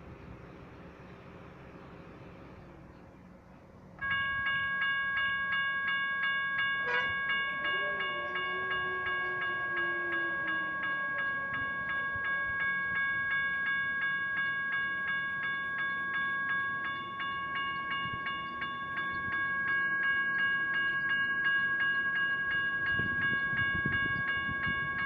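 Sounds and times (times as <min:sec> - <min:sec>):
light traffic: 0:00.0 - 0:24.1
electronic crossing bell ringing: 0:04.0 - 0:25.0.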